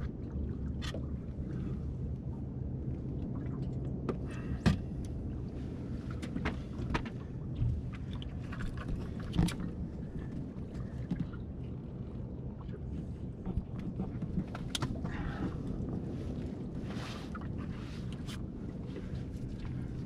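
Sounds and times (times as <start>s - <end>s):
boat low rumble: 0.0s - 20.0s.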